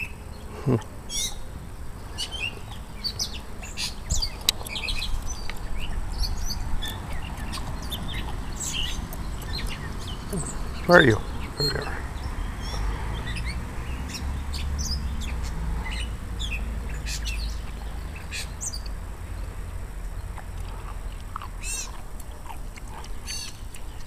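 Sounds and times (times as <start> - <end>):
harsh bird calls: 0.0 - 19.0, 20.2 - 22.0, 23.2 - 24.0
birds chirping: 0.0 - 24.0
steady low rumble: 0.0 - 24.0.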